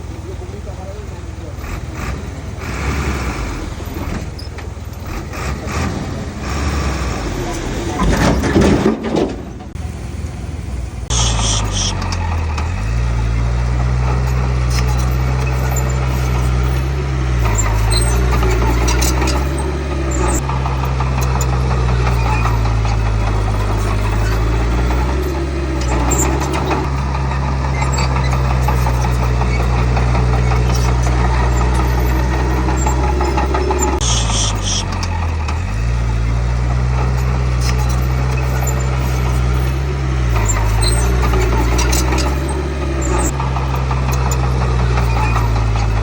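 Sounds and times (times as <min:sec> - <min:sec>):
diesel engine under load: 0:00.0 - 0:46.0
mechanical clatter: 0:07.3 - 0:09.9, 0:11.0 - 0:46.0.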